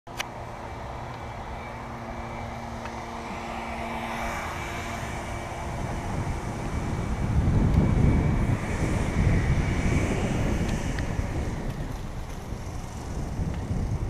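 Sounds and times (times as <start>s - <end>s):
wind: 0.0s - 14.0s
bicycle road noise: 0.1s - 14.0s
low engine-like hum: 0.1s - 14.0s.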